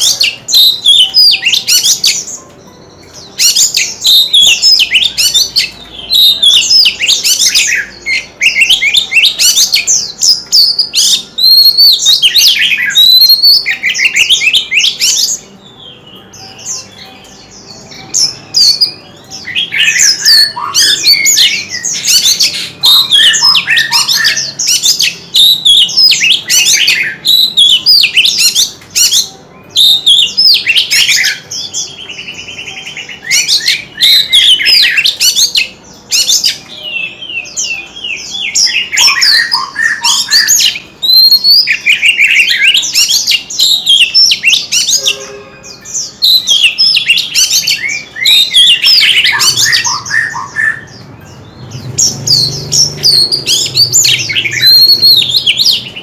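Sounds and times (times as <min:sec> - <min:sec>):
bird singing whistled phrases: 0:03.4 - 0:56.0.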